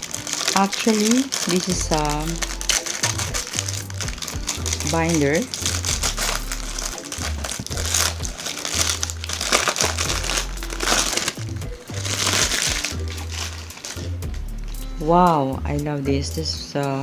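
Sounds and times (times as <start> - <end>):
packaging crinkling: 0.0 - 14.2
background music with bass: 1.1 - 17.0.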